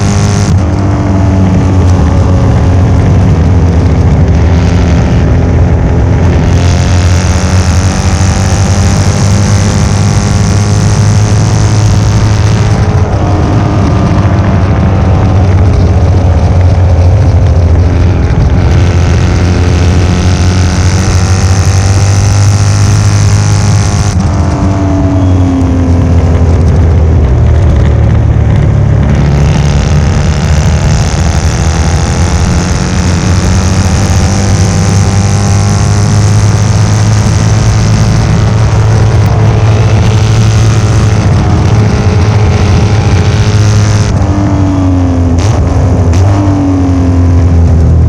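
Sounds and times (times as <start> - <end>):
motorcycle race engine revving: 0.0 - 48.0.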